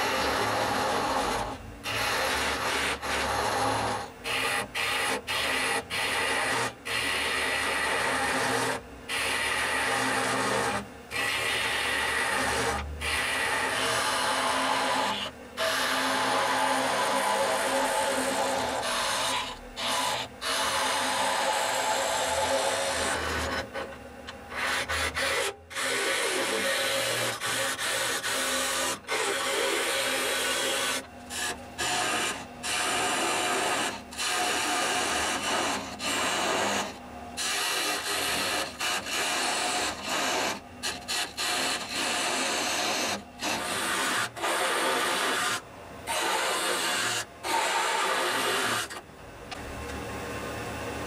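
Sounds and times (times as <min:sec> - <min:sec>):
lathe tool scraping wood: 0:00.0 - 0:49.0.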